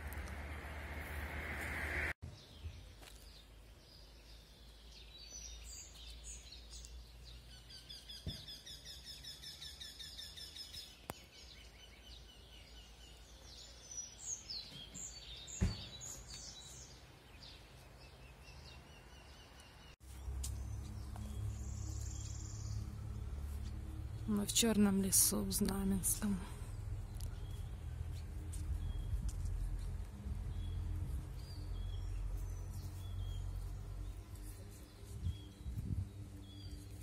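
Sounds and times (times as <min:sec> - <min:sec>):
birds singing trills: 0:02.3 - 0:23.6, 0:24.3 - 0:37.0.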